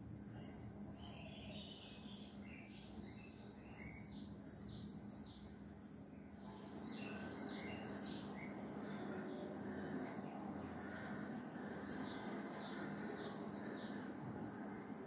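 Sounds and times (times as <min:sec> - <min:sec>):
faint low hum: 0:00.0 - 0:15.0
small birds chirping: 0:00.2 - 0:10.2, 0:10.9 - 0:14.2.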